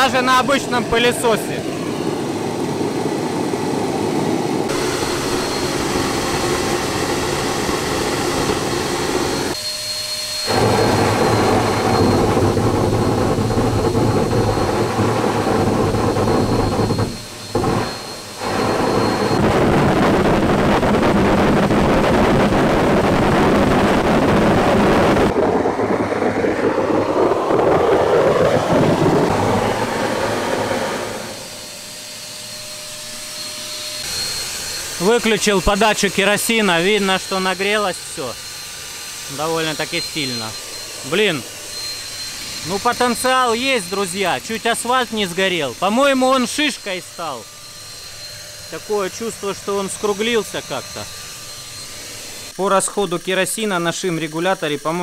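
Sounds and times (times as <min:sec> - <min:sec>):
jet engine running harshly: 0:00.0 - 0:55.0.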